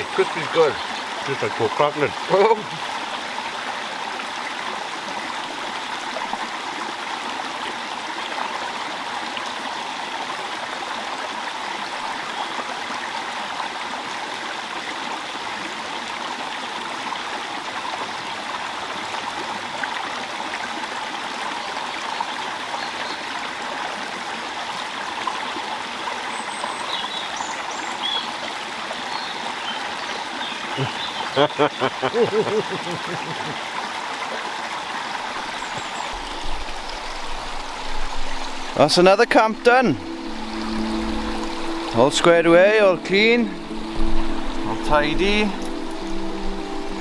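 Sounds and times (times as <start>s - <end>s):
stream running over rocks: 0.0s - 47.0s.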